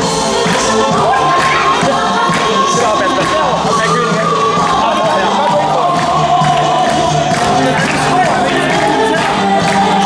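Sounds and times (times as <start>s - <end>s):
crowd cheering and shouting: 0.0s - 10.0s
music playing: 0.0s - 10.0s.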